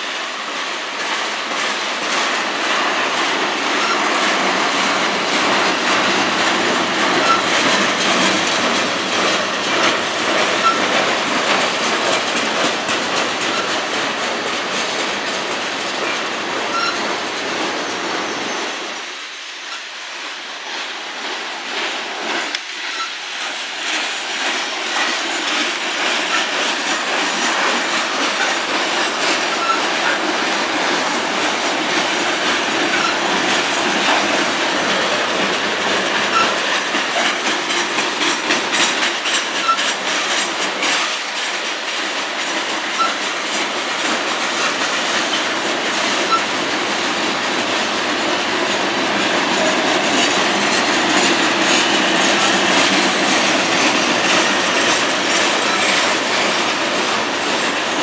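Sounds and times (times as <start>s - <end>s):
train wheels rumbling on rail: 0.0s - 58.0s
wheels clicking over rail joints: 0.0s - 58.0s.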